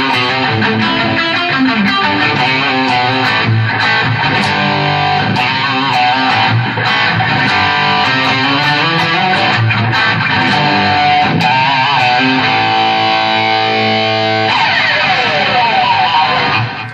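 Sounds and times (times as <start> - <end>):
overdriven electric guitar: 0.0 - 16.9.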